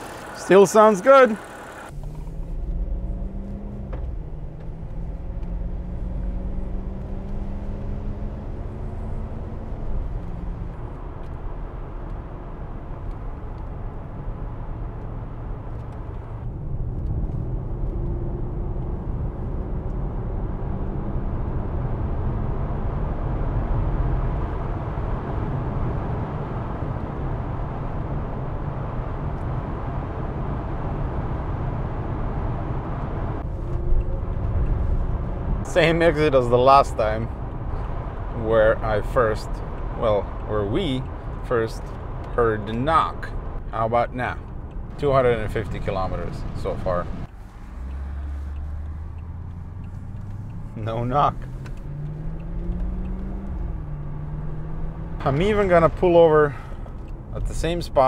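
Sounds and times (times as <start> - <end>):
car engine accelerating: 0.0 - 58.0
road and tyre noise: 0.0 - 58.0.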